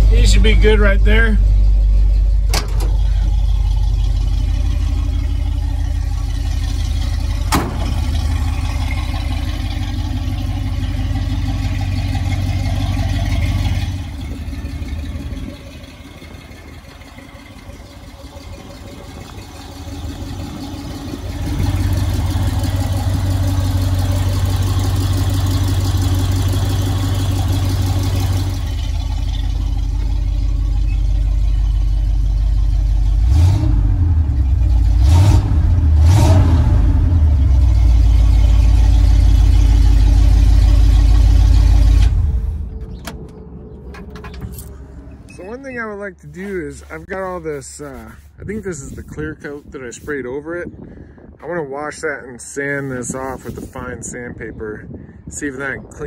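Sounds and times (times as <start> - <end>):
truck engine and road noise: 0.0 - 56.0.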